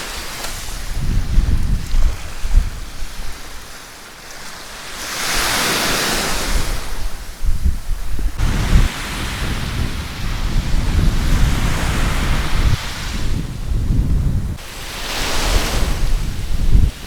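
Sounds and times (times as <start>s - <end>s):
wind buffeting microphone: 0.0s - 3.8s, 6.3s - 17.0s
waves breaking on a beach: 0.0s - 17.0s.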